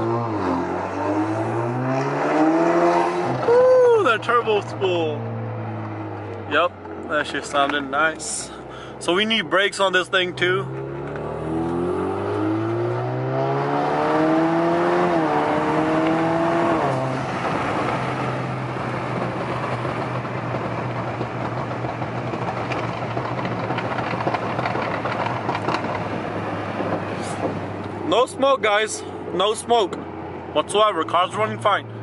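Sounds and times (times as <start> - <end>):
car engine accelerating: 0.0 - 32.0
road noise: 0.0 - 32.0.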